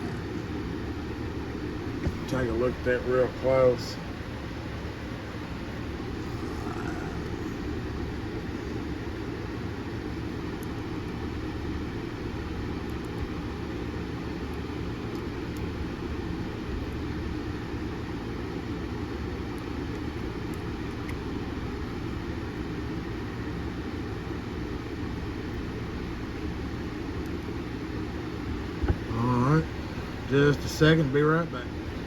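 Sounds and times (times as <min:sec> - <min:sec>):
background hum and hiss: 0:00.0 - 0:32.0.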